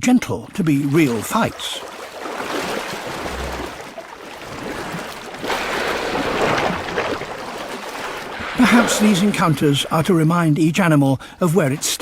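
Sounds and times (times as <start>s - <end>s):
sea water sloshing and splashing: 0.2s - 12.0s.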